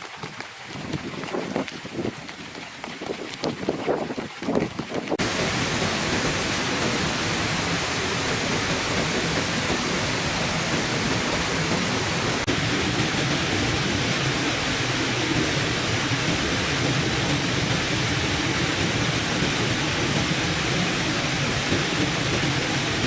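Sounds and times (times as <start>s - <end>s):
small waterfall splashing into pond: 0.0s - 23.0s.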